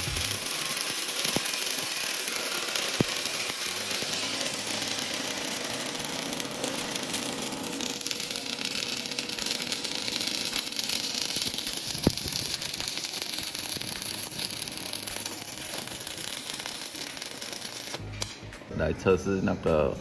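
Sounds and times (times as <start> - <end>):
welding arc crackling hiss: 0.0 - 18.3.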